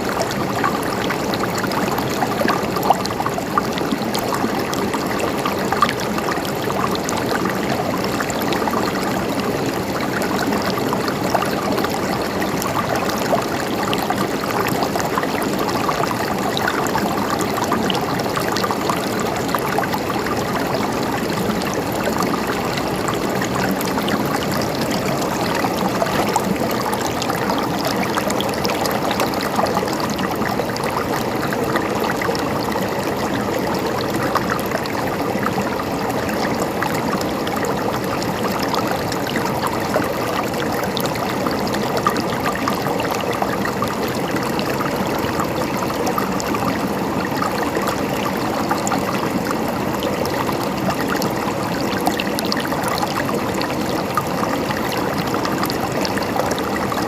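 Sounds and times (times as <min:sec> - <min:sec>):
stream gurgling and trickling: 0:00.0 - 0:57.0.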